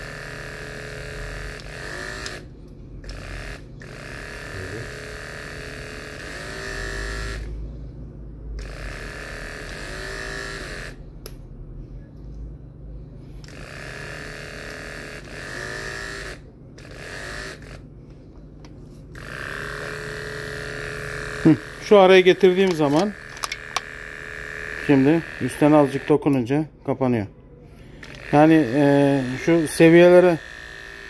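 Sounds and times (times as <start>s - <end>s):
hair clipper whining: 0.0s - 7.6s, 8.6s - 11.4s, 13.4s - 17.8s, 19.0s - 26.5s, 27.8s - 31.0s.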